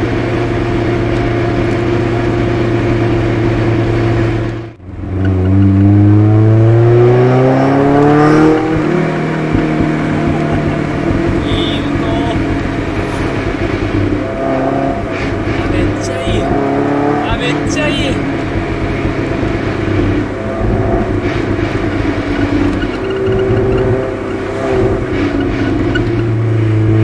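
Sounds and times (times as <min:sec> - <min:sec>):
car exhaust revving: 0:00.0 - 0:27.0.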